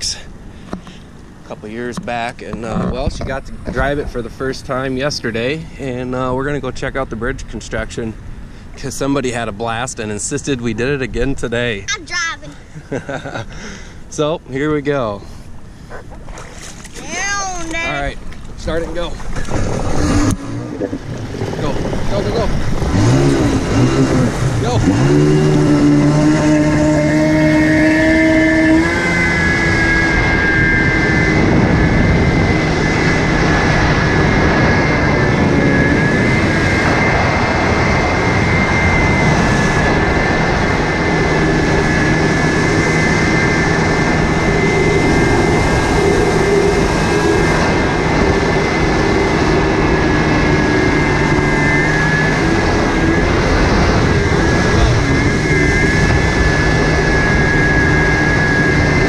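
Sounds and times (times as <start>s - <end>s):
watercraft engine running: 0.0s - 59.0s.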